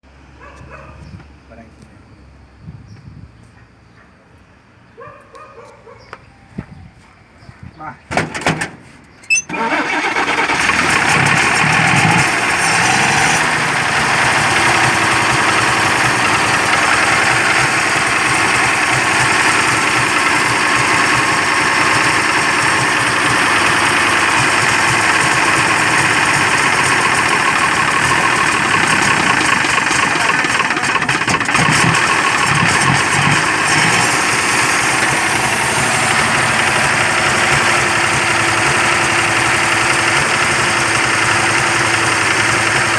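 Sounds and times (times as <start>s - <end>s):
truck engine cranking and starting: 8.1s - 42.9s.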